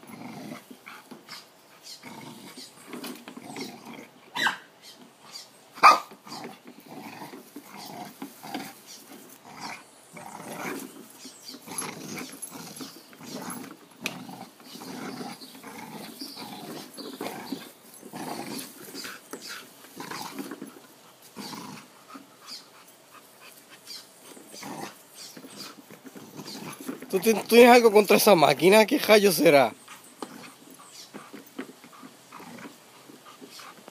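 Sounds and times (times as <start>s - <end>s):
dog growling: 0.0s - 4.2s, 6.2s - 23.5s, 24.3s - 33.9s.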